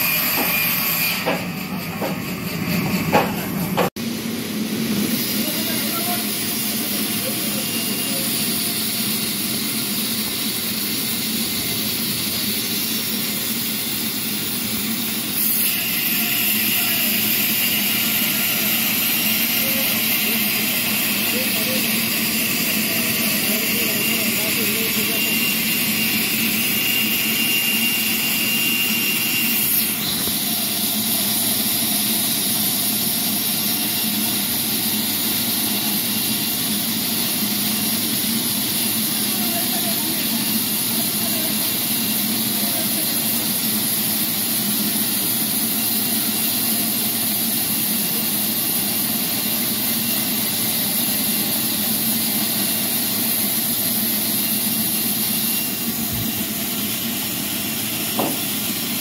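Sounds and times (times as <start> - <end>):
band saw whirring: 0.0 - 59.0.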